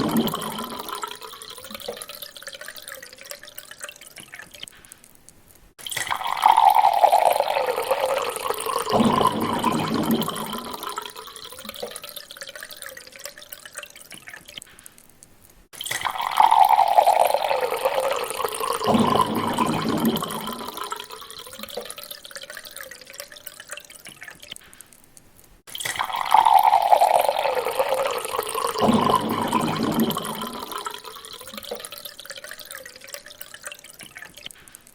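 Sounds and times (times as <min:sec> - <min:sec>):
water poured into a glass: 0:00.0 - 0:04.7, 0:05.8 - 0:14.6, 0:15.8 - 0:24.5, 0:25.7 - 0:34.9.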